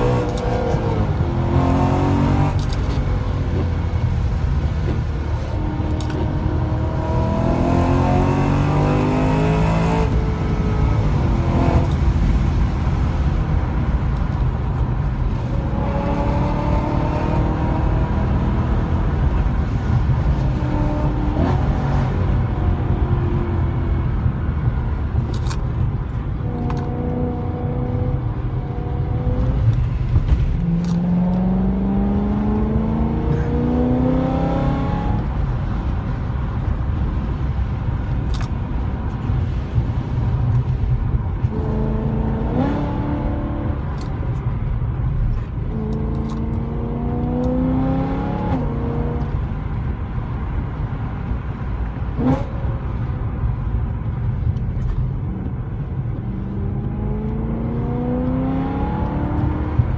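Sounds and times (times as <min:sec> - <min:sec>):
car engine accelerating: 0:00.0 - 0:59.9
road noise rumble: 0:00.0 - 0:59.9.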